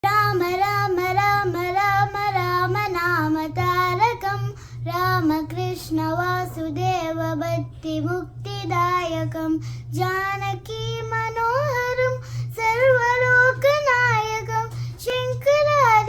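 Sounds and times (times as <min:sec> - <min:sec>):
girl singing: 0:00.0 - 0:16.0
steady low hum: 0:00.0 - 0:16.0.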